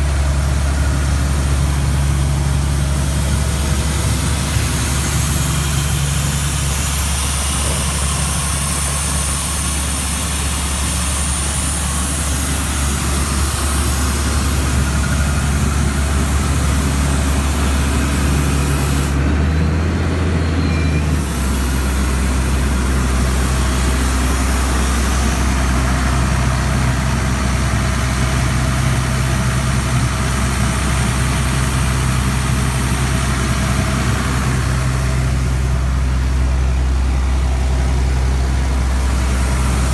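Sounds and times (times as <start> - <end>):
air compressor diesel engine humming: 0.0 - 39.9.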